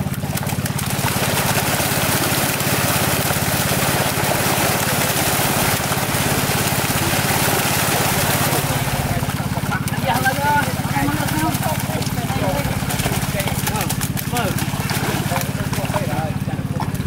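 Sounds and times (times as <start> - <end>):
fish thrashing and splashing: 0.0 - 17.0
small engine running: 0.0 - 17.0.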